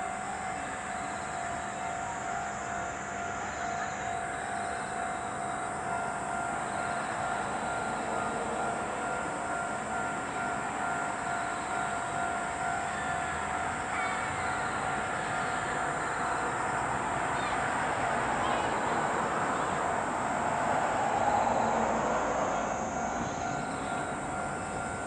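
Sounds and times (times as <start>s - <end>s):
diesel railcar engine whining: 0.0s - 25.0s
high-pitched drone: 0.5s - 25.0s.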